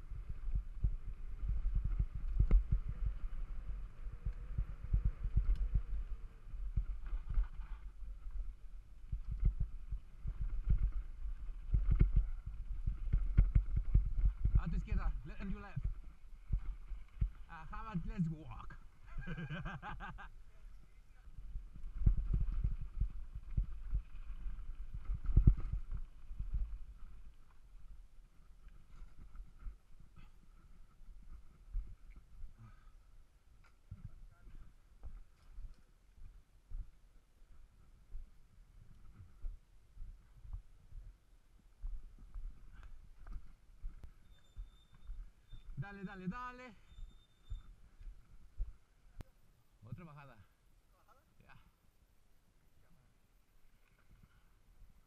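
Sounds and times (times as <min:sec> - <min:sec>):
mountain bike rolling on dirt: 0:00.0 - 0:49.1.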